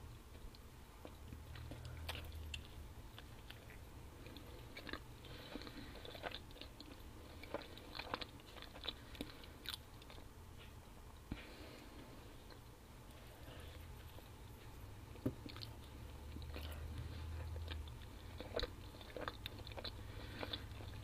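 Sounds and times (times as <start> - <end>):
low steady hum: 0.0 - 21.0
person chewing and biting food: 1.0 - 11.4, 13.6 - 21.0.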